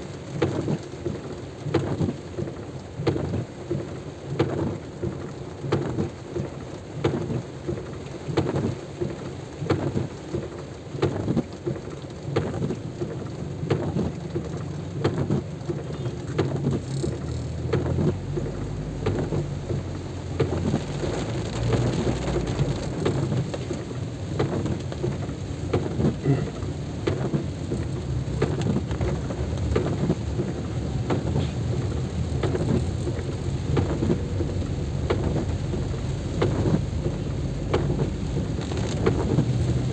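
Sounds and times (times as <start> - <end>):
raindrops tapping: 0.0 - 39.9.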